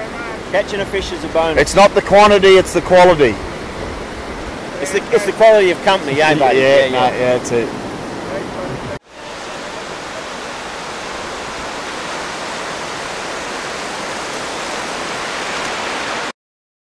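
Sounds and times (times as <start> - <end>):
surf washing onto sandy beach: 0.0 - 16.3.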